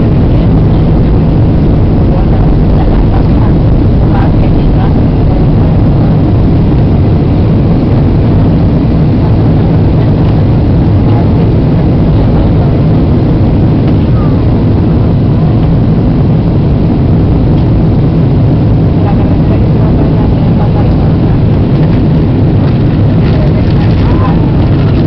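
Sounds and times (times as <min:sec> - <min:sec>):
airplane cabin jet engine rumble: 0:00.0 - 0:25.0.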